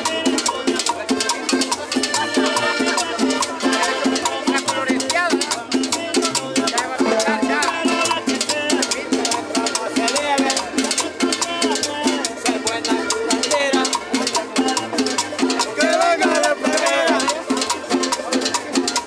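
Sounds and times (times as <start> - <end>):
live salsa band music: 0.0 - 19.0.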